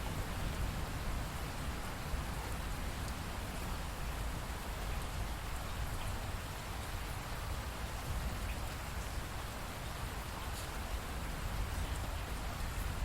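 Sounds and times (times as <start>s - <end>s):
steady rainfall pattering: 0.0s - 13.0s.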